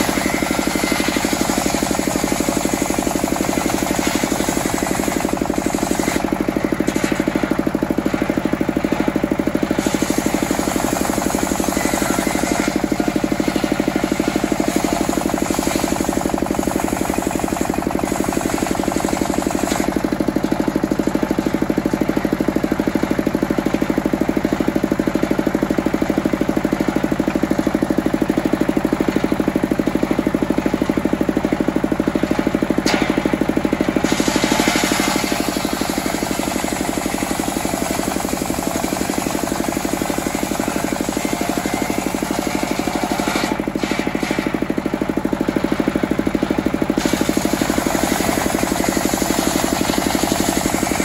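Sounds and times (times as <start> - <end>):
circular saw cutting wood: 0.0 - 21.6, 28.8 - 51.0
diesel engine running: 0.0 - 51.0.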